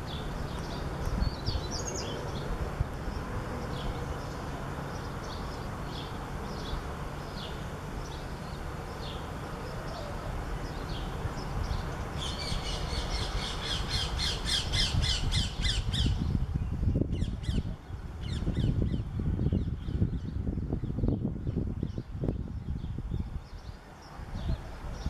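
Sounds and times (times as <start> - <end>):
harsh bird calls: 0.0 - 21.0
birds calling: 0.0 - 21.1.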